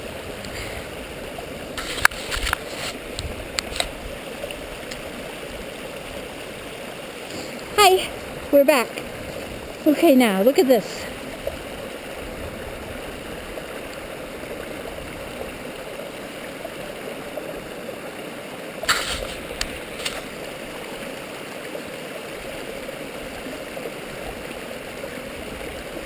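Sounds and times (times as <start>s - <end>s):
waterfall rushing and gurgling: 0.0s - 26.0s.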